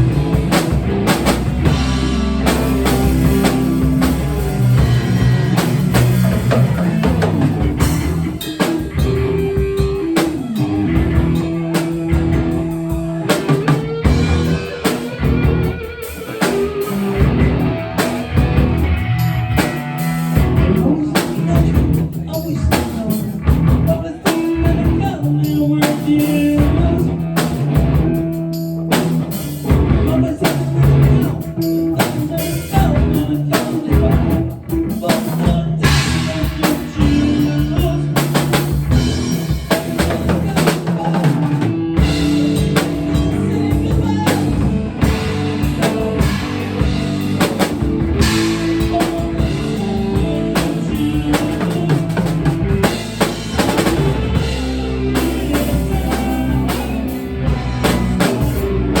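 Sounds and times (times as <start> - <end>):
rock music with drums and guitars: 0.0 - 59.0.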